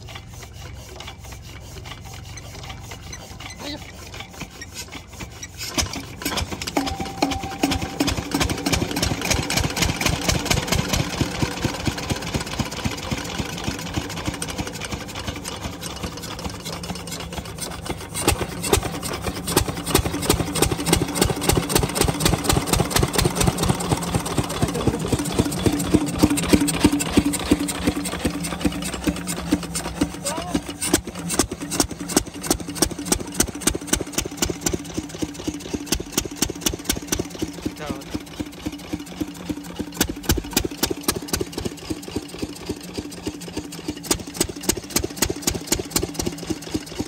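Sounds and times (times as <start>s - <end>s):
diesel engine hand-cranked and running: 0.0s - 47.0s
water pump running: 0.0s - 47.0s.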